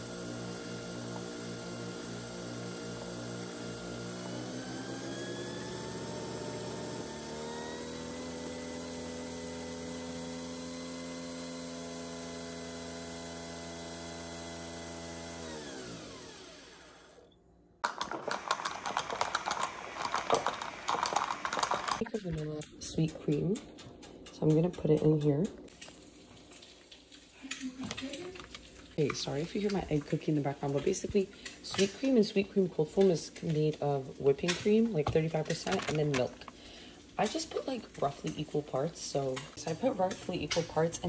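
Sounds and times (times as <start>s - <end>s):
coffee machine motor and pump hum: 0.0s - 22.7s, 27.4s - 41.0s.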